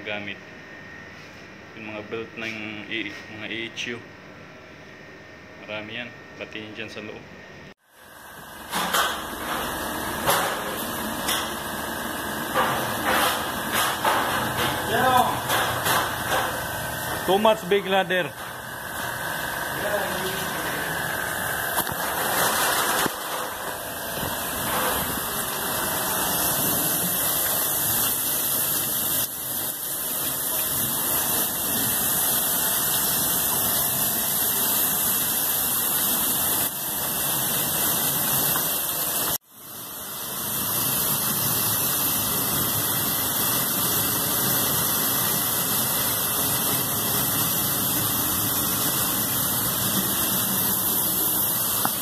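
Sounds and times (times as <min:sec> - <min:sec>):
pressure-washer jet spraying water: 0:09.5 - 0:52.0.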